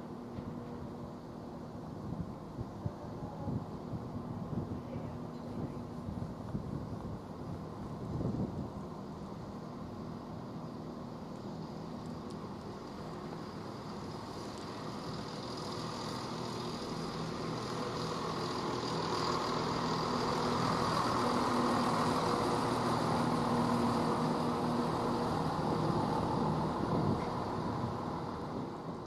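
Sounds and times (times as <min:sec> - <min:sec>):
train running: 0:00.0 - 0:29.0.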